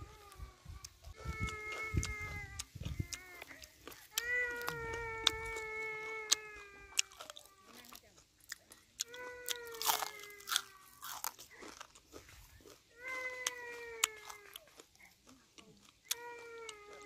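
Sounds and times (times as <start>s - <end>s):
crunching fried food: 0.0s - 17.0s.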